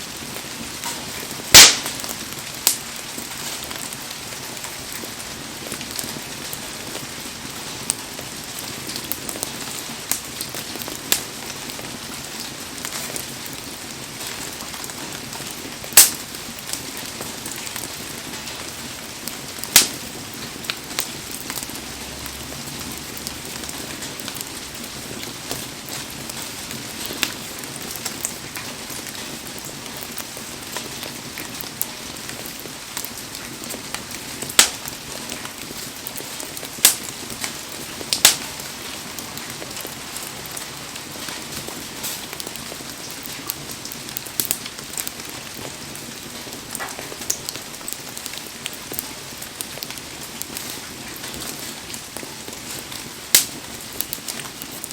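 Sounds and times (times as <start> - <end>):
bonfire wood popping and crackling: 0.0 - 54.9.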